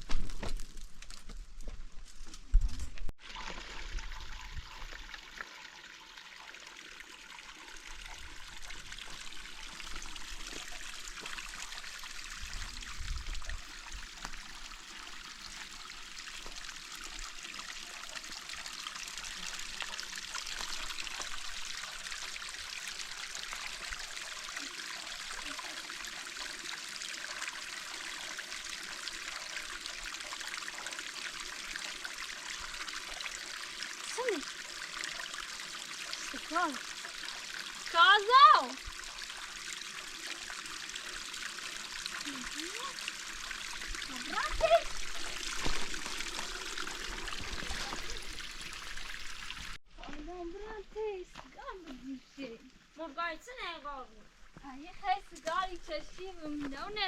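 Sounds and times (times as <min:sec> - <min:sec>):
water trickling: 0:03.2 - 0:57.0.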